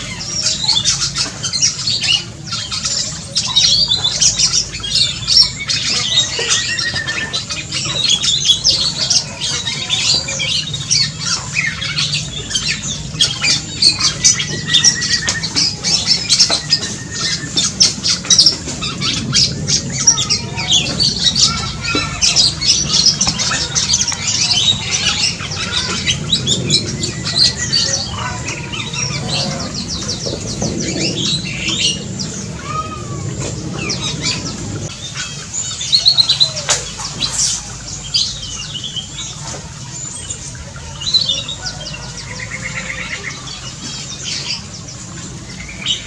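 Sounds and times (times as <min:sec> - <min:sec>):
chatter of birds: 0:00.0 - 0:46.0
oriole calling: 0:00.0 - 0:46.0.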